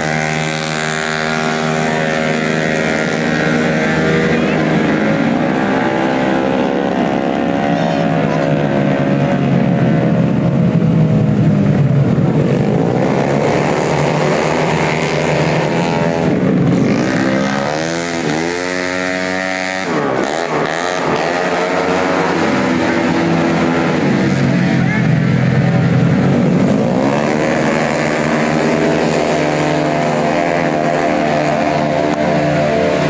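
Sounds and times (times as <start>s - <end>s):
scooter engines revving hard: 0.0s - 33.0s.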